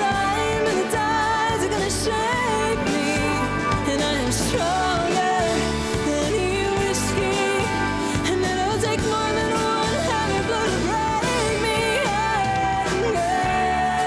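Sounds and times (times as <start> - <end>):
pop song singing: 0.0 - 14.0
steady backing beat: 0.0 - 14.0.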